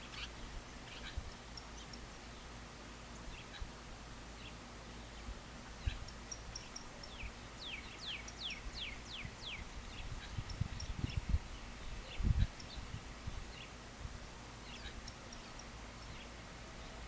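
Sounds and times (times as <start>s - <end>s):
birds chirping: 0.0s - 17.0s
low background hiss: 0.0s - 17.0s.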